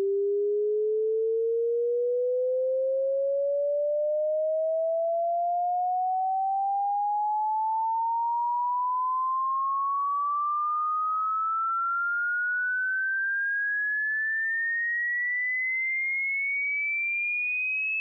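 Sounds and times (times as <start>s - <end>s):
sine tone sweeping upward: 0.0s - 16.1s.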